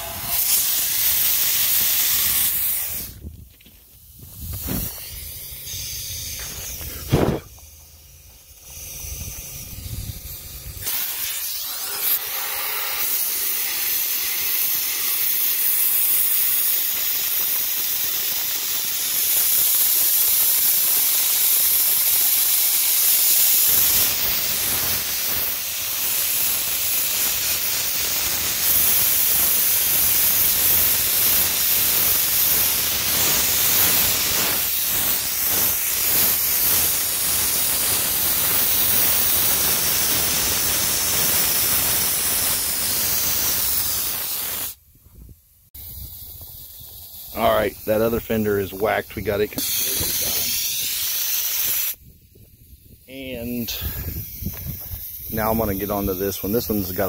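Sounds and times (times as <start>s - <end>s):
sandblaster hissing: 0.0s - 57.0s.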